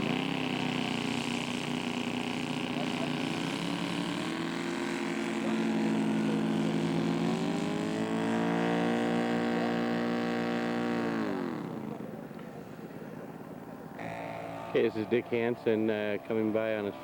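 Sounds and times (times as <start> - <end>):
model airplane engine drone: 0.0 - 17.0.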